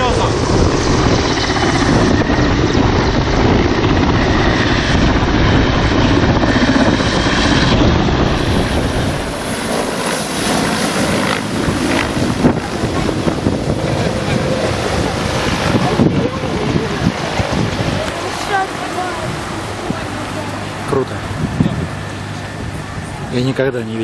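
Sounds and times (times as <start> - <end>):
helicopter rotor and engine: 0.0 - 24.0
wind buffeting microphone: 0.0 - 24.0.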